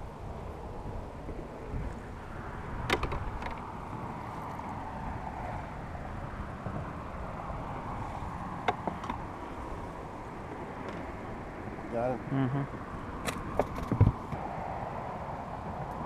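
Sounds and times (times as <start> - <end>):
wind rumble on microphone: 0.0 - 11.9, 12.7 - 16.0.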